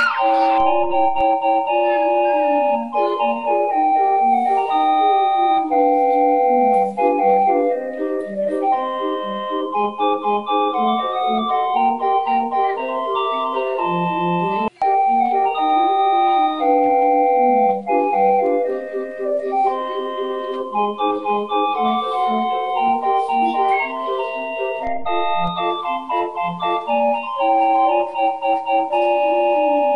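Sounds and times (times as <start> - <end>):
organ-like keyboard tune: 0.0 - 29.9.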